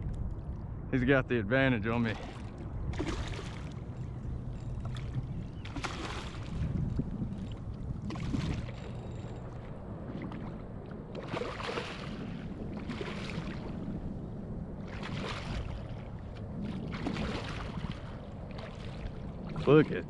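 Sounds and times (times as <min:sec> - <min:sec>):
wind rumble on microphone: 0:00.0 - 0:20.0
water splashing around a kayak: 0:01.9 - 0:20.0.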